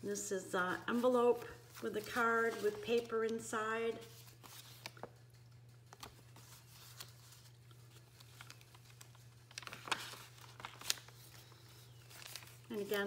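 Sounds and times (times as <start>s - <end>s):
card ticks and rustles: 1.0s - 13.0s.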